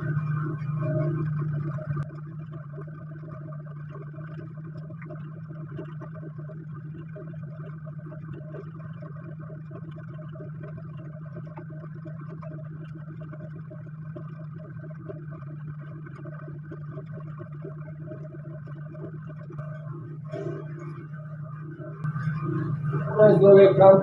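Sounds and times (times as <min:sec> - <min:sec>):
faint irregular flutter: 0:00.0 - 0:24.0
machine humming: 0:00.0 - 0:24.0.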